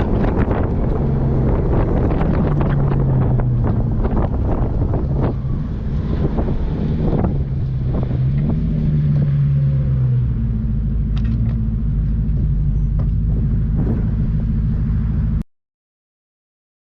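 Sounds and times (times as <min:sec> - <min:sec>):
off-road vehicle engine running: 0:00.0 - 0:15.4.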